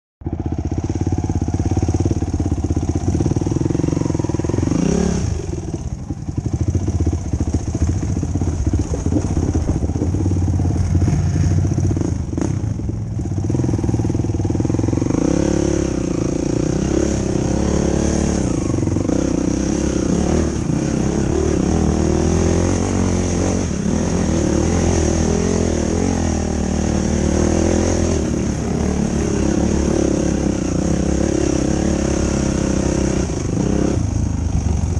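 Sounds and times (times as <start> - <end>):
quad engine revving: 0.4 - 34.9.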